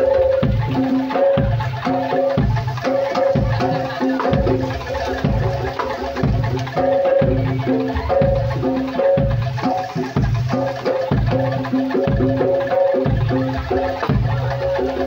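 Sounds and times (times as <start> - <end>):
deep drum strokes: 0.0 - 15.0
mallet-struck tuned percussion: 0.0 - 15.0.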